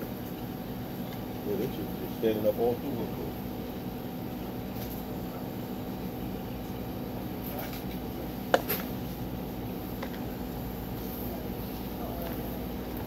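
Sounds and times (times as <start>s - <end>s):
store machinery hum: 0.0s - 13.0s.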